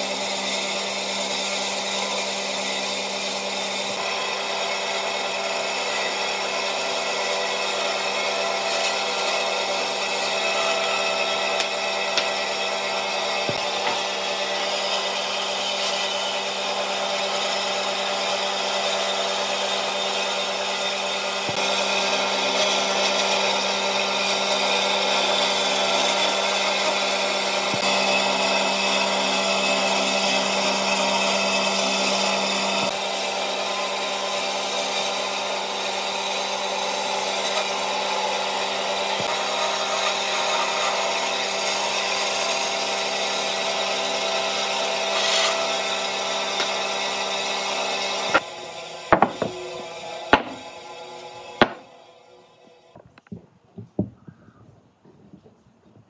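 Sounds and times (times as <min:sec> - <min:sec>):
power tool grinding wood: 0:00.0 - 0:53.0.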